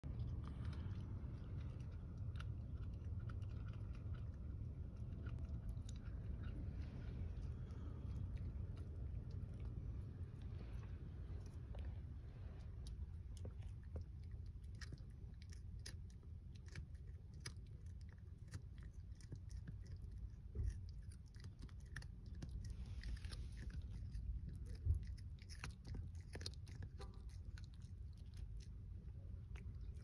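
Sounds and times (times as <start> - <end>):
dog gnawing chew stick: 0.0 - 30.0
low rumble: 0.0 - 30.0.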